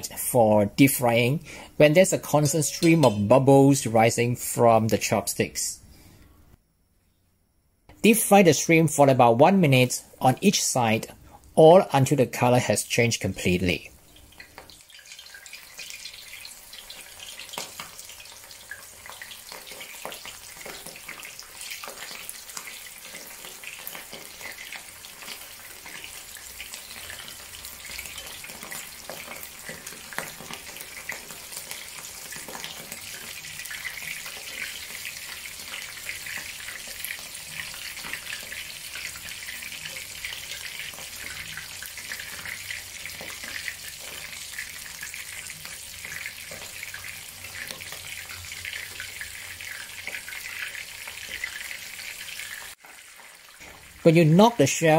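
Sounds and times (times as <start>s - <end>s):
shrimp deep-frying in oil: 0.0s - 5.8s, 8.0s - 54.9s.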